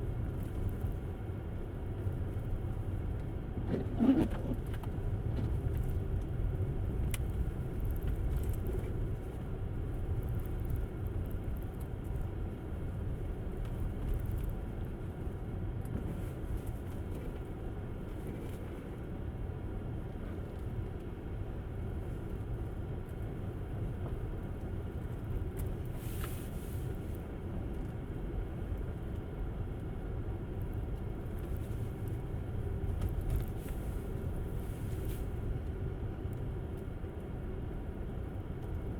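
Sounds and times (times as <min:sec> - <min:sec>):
road rumble and tyre noise: 0:00.0 - 0:38.9.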